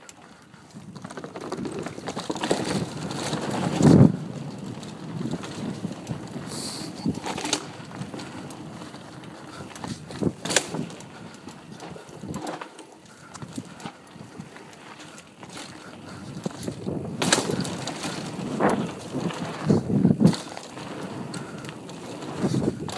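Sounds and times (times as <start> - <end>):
bicycle tyre noise on dirt: 0.0 - 22.9
bike knocking and rattling: 0.0 - 22.9.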